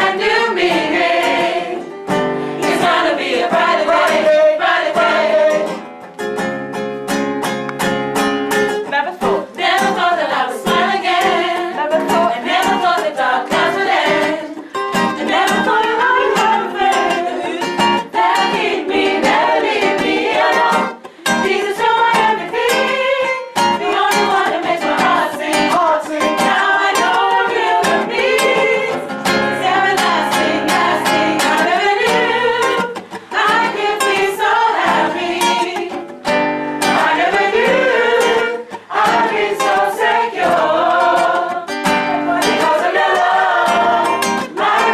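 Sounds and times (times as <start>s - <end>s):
gospel singing: 0.0s - 6.0s, 8.9s - 44.9s
strummed guitar: 0.0s - 44.9s.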